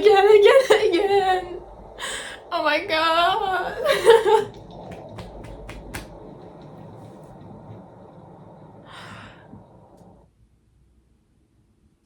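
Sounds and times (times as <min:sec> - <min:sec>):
low background sound: 0:00.0 - 0:12.0.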